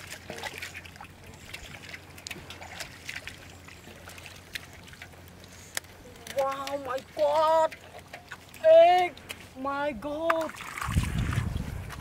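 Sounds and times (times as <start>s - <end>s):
small splashes and clicks: 0.0s - 12.0s
water trickling and sloshing: 0.0s - 12.0s.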